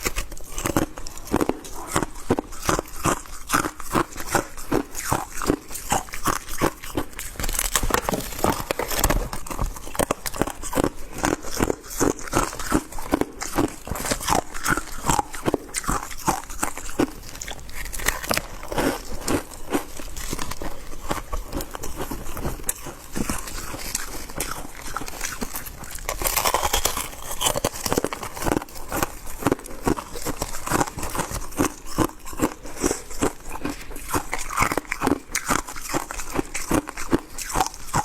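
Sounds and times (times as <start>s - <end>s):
person chewing crunchy ice: 0.0s - 38.0s.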